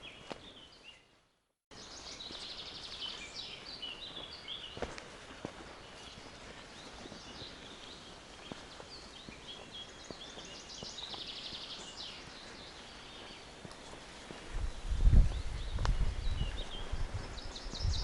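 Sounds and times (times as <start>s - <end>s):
soft footsteps on forest floor: 0.0s - 18.0s
songbirds singing: 0.0s - 18.0s.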